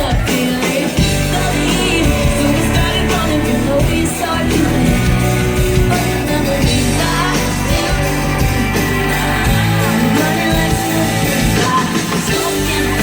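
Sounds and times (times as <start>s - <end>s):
live pop-rock band: 0.0s - 13.0s
person singing: 0.0s - 13.0s.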